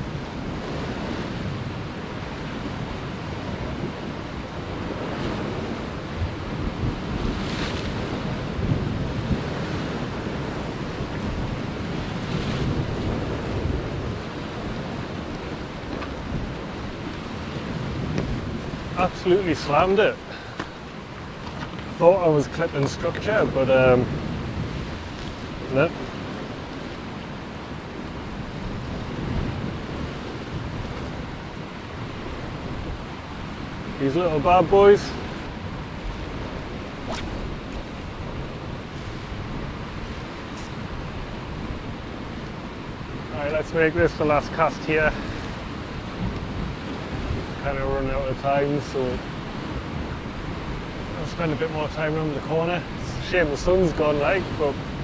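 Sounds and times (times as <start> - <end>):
waves breaking against rocks: 0.0 - 55.0
wind buffeting microphone: 0.0 - 55.0.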